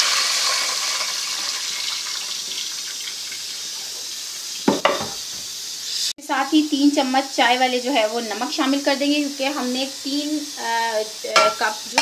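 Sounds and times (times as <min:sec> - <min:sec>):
water sizzling in hot oil: 0:00.0 - 0:12.0.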